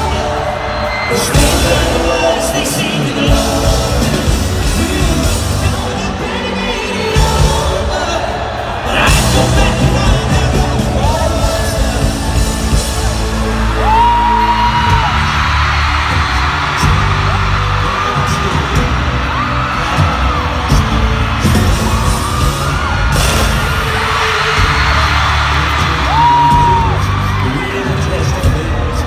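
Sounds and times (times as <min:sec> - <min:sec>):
crowd yelling and whooping: 0:00.0 - 0:29.0
live pop band playing: 0:00.0 - 0:29.0.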